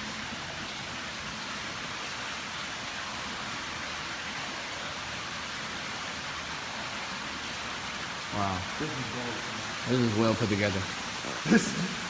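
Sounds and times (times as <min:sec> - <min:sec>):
running water in a cave: 0:00.0 - 0:12.0.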